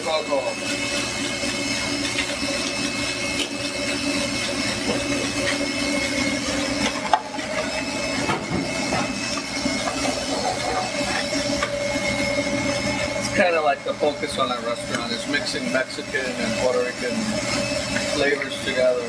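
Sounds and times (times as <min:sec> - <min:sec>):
kitchen equipment hum: 0:00.0 - 0:19.0.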